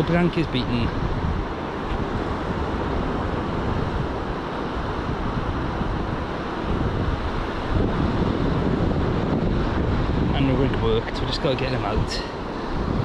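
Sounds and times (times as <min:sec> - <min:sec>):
sea surf washing in: 0:00.0 - 0:13.0
wind noise on microphone: 0:00.0 - 0:13.0.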